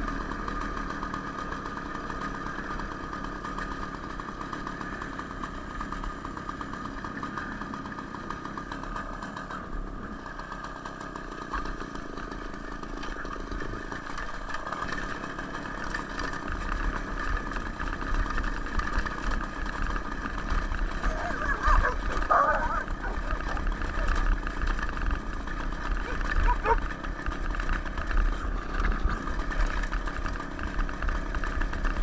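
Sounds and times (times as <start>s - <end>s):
two-stroke moped engine buzzing: 0.0s - 32.0s.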